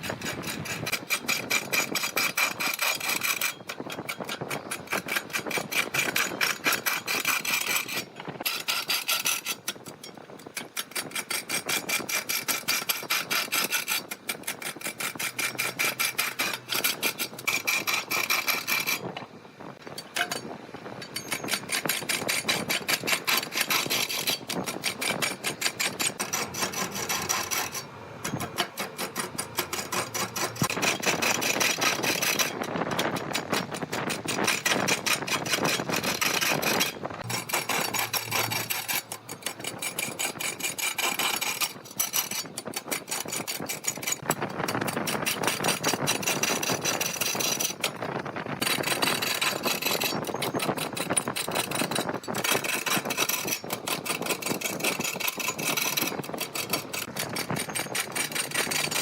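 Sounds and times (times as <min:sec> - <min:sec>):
lathe tool scraping spinning wood: 0:00.0 - 0:59.0.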